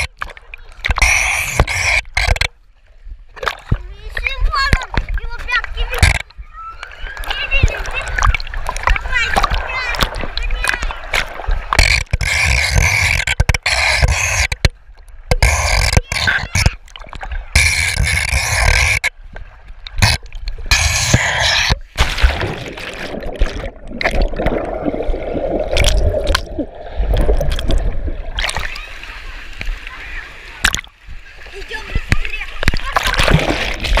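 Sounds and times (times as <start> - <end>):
water rushing and splashing: 3.3 - 34.0.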